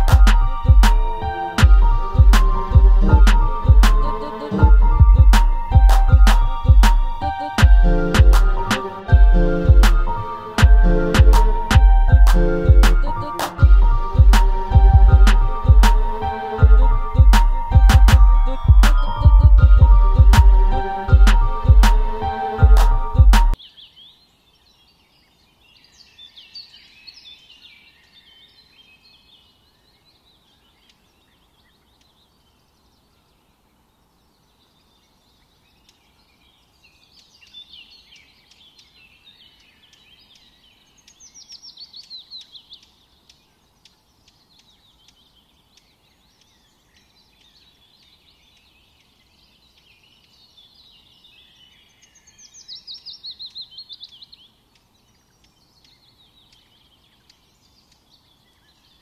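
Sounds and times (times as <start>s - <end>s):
small birds chirping: 0.0s - 22.8s, 23.5s - 59.0s.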